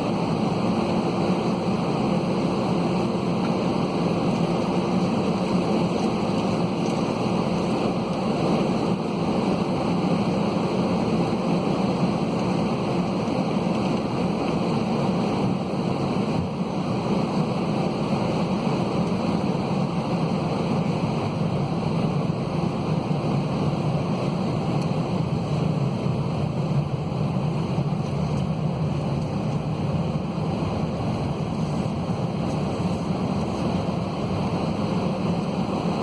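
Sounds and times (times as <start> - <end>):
jet engine cabin roar: 0.0 - 36.0.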